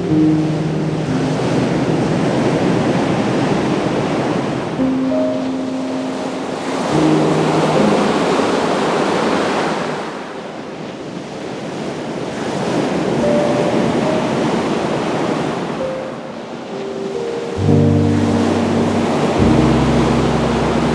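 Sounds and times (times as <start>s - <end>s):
ocean waves breaking on beach: 0.0s - 20.9s.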